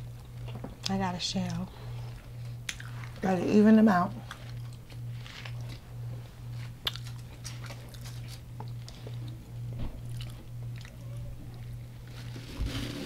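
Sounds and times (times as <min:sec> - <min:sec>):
chewing and crunching food: 0:00.0 - 0:03.4, 0:04.1 - 0:13.0.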